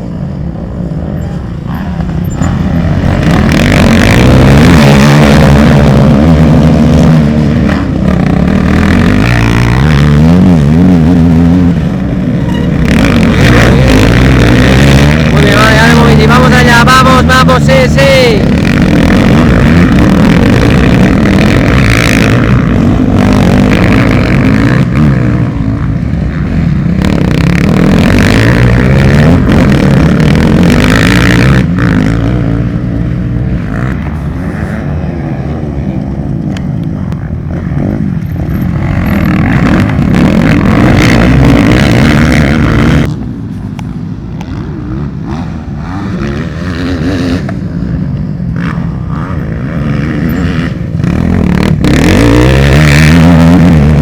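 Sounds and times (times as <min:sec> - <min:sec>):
motocross engines revving: 0:00.0 - 0:54.0.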